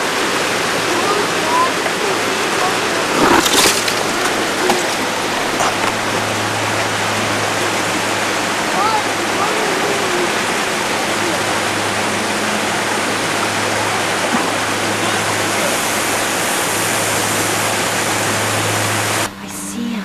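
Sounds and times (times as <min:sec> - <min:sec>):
steady rushing noise: 0:00.0 - 0:19.9.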